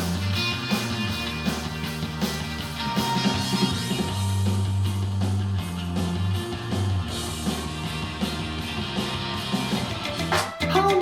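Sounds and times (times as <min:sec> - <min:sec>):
rock music through speaker: 0:00.0 - 0:11.0.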